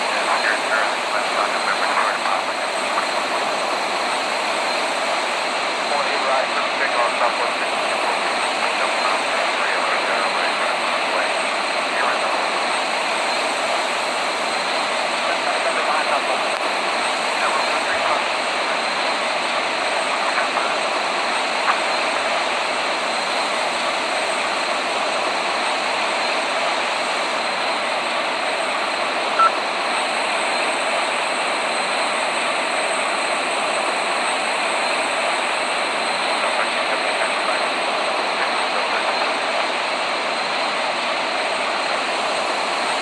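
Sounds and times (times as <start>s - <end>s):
jet engines and airflow rushing: 0.0s - 43.0s.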